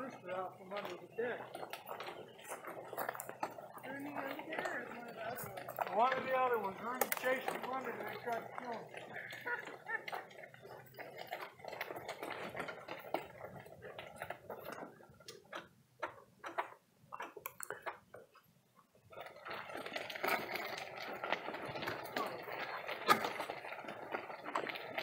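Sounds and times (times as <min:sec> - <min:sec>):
footsteps on gravel: 0:00.0 - 0:18.4, 0:19.2 - 0:25.0.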